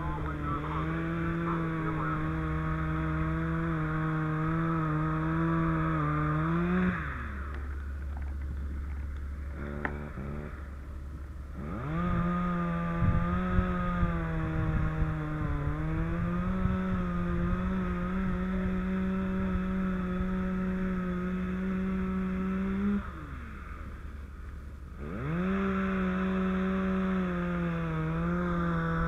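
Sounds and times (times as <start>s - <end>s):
power saw cutting roof: 0.0s - 10.8s, 11.5s - 23.9s, 25.0s - 29.0s.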